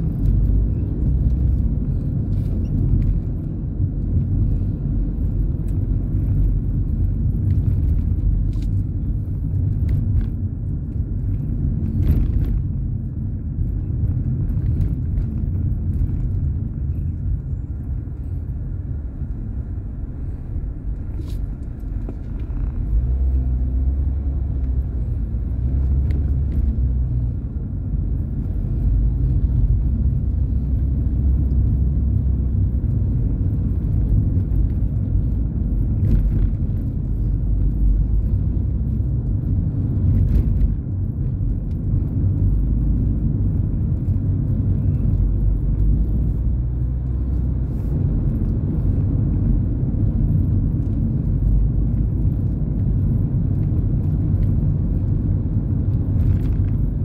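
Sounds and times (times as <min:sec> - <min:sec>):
car engine rumble: 0:00.0 - 0:57.0
road noise inside car: 0:00.0 - 0:57.0.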